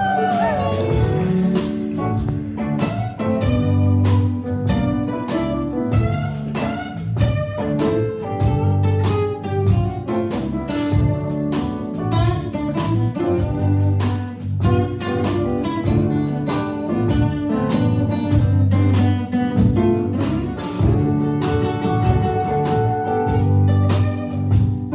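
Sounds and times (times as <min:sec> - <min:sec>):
live band playing: 0:00.0 - 0:24.9.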